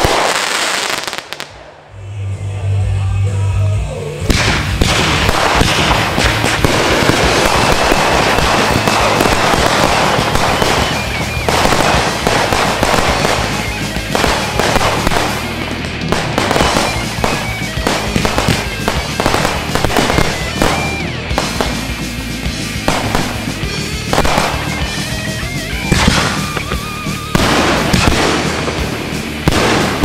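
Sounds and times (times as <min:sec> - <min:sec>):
fireworks bangs and crackles: 0:00.0 - 0:01.9, 0:04.2 - 0:30.0.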